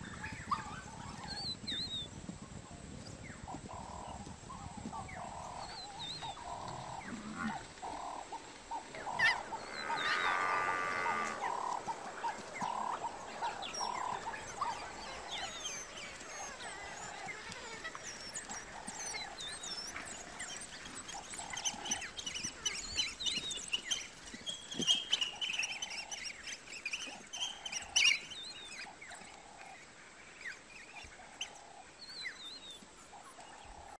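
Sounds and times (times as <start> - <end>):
wild dogs twittering and squeaking: 0.0 - 29.8, 30.4 - 34.0.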